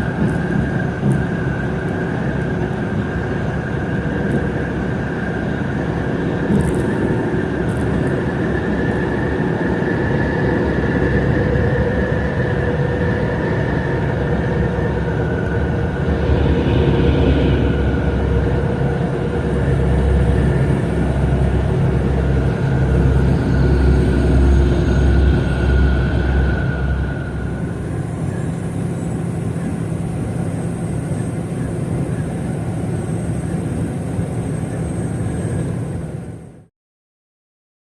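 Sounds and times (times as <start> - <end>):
heavy truck engine and road noise: 0.0 - 36.7.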